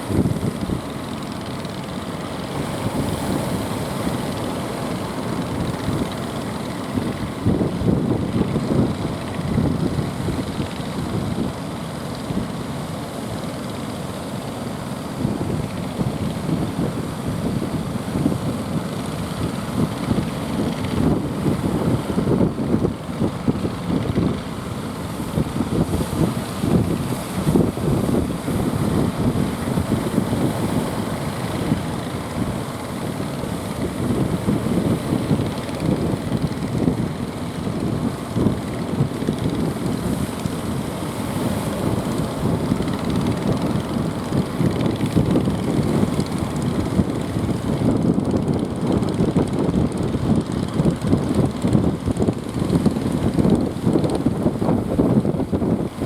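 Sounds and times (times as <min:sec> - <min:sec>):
wind buffeting microphone: 0:00.0 - 0:12.7, 0:15.2 - 0:56.0
boat motor running: 0:00.0 - 0:56.0.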